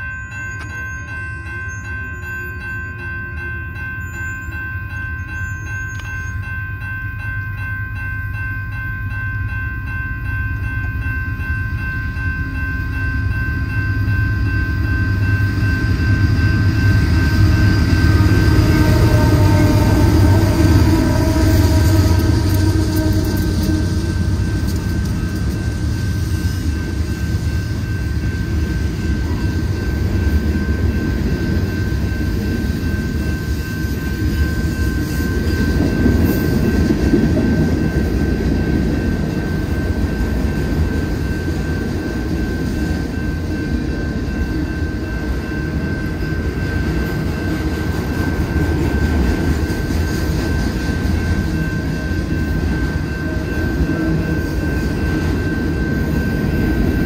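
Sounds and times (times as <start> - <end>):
freight train wheels rumbling: 0.0 - 57.0
thin high tone: 0.0 - 57.0.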